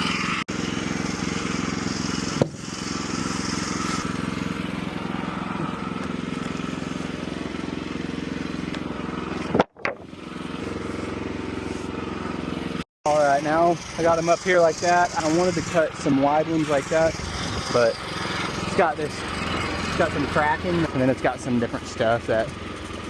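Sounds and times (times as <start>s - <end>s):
small gasoline engine running: 0.0s - 23.0s.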